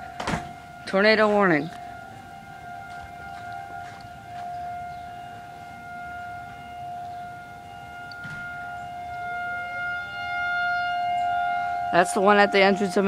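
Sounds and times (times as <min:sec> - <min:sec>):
faint gliding siren tone: 0:00.0 - 0:13.0
tornado warning siren: 0:00.0 - 0:13.0.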